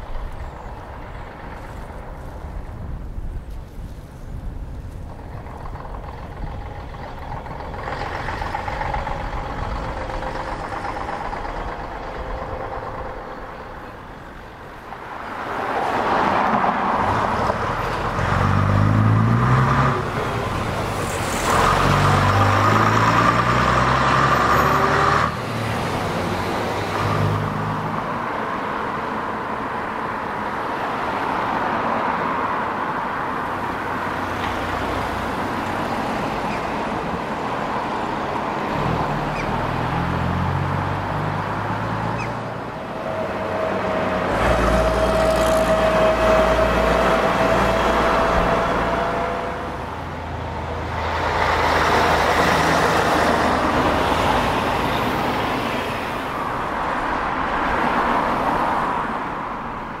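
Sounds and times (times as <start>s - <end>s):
heavy bus engine: 0.0s - 60.0s
traffic passing: 0.0s - 60.0s.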